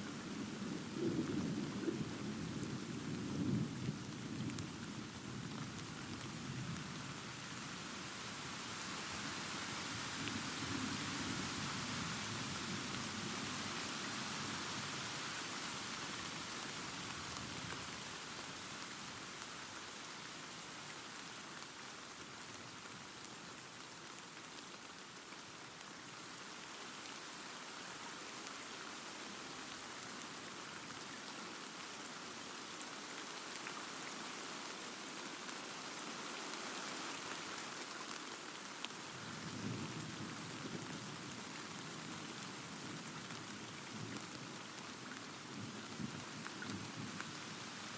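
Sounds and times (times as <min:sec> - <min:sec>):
steady rain hissing: 0:00.0 - 0:47.9.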